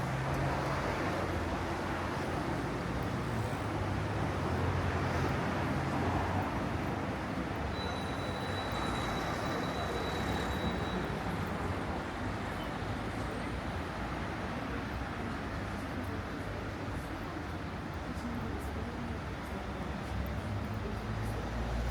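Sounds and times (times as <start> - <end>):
vehicles passing: 0.0 - 21.9.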